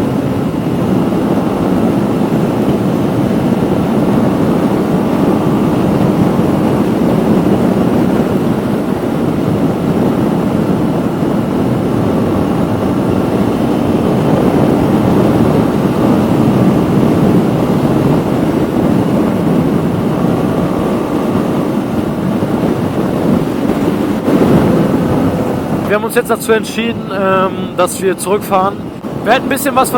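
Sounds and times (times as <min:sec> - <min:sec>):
motorcycle engine rumbling: 0:00.2 - 0:29.9.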